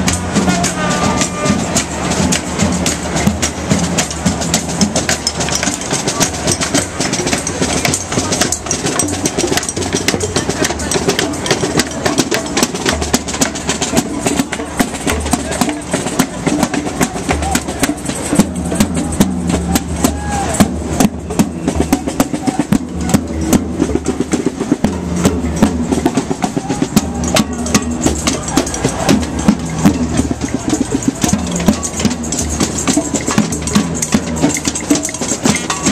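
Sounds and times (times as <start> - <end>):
drums beaten in fast rhythm: 0.0 - 35.9.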